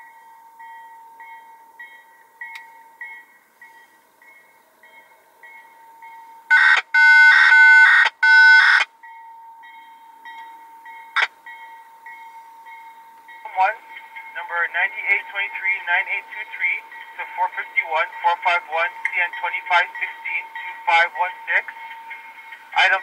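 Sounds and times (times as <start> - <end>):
crossing warning bell ringing: 0.0 - 23.0.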